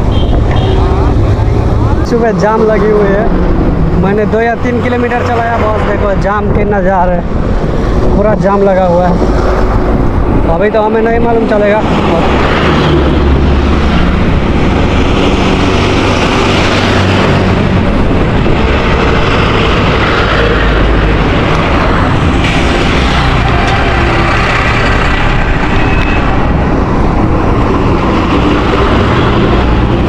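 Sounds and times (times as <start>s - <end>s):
traffic noise: 0.0s - 30.0s
truck diesel engines rumbling: 0.0s - 30.0s.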